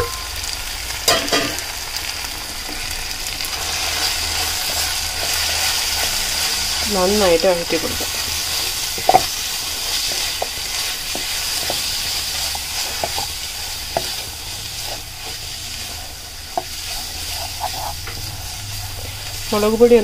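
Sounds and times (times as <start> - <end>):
masala sizzling in a frying pan: 0.0 - 20.0
spatula scraping a pan: 2.7 - 20.0.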